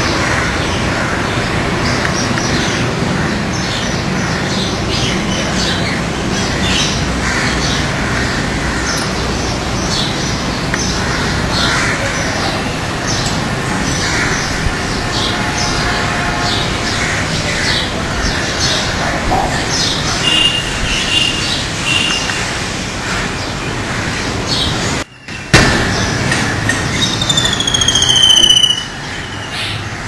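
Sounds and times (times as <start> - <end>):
birds calling: 0.0 - 30.0
steady background noise: 0.0 - 30.0.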